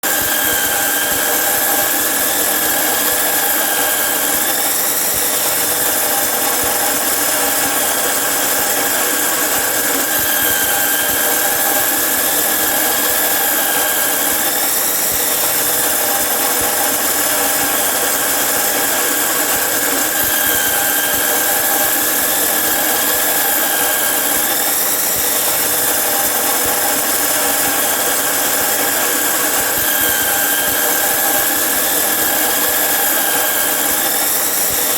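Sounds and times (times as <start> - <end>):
angle grinder cutting iron: 0.0 - 34.9.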